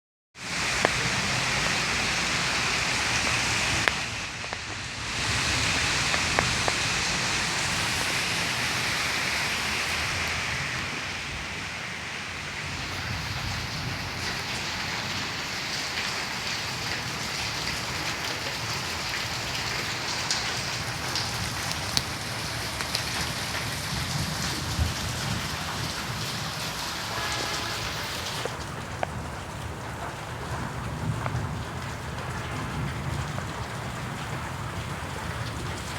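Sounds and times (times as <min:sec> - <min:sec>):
steady rain falling: 0:00.4 - 0:35.9.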